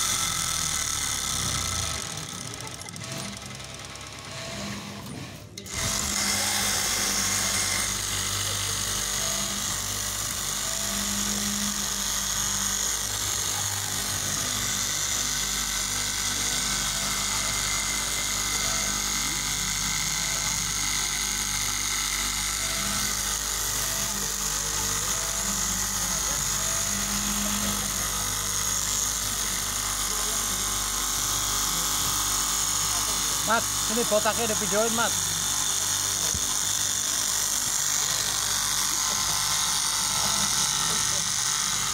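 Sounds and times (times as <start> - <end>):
cloth cutting machine running: 0.0 - 41.9.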